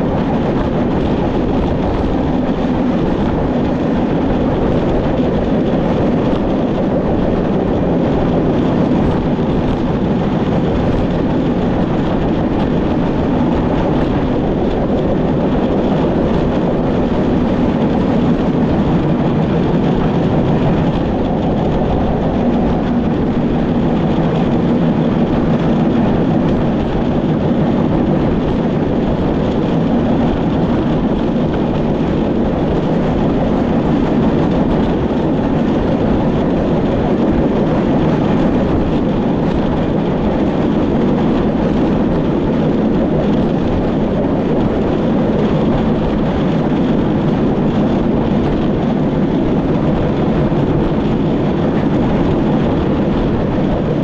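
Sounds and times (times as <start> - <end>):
moving train running noise: 0.0 - 54.0.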